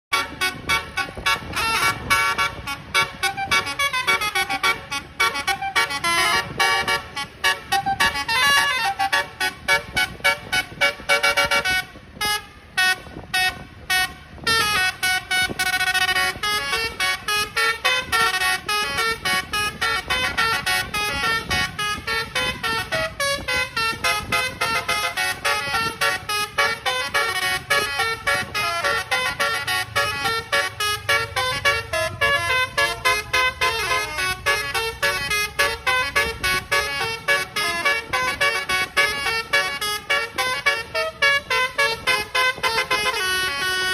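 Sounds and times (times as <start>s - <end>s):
multi-tone air horn melody: 0.1s - 43.9s.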